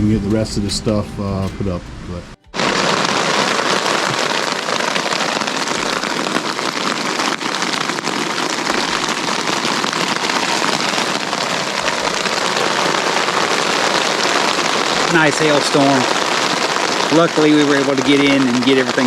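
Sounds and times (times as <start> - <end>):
hail pelting down: 2.5 - 19.0.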